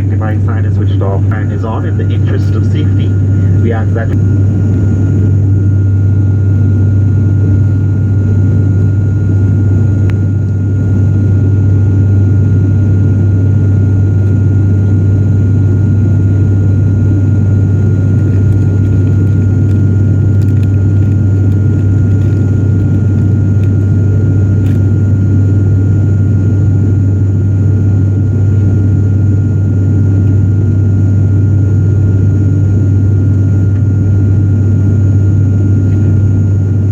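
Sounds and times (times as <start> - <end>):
faint steady whine: 0.0 - 36.9
propeller engines droning: 0.0 - 36.9.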